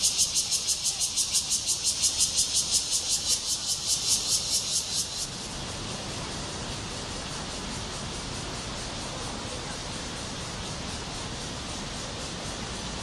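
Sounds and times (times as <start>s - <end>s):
cicadas singing: 0.0s - 13.0s
steady hiss: 0.0s - 13.0s.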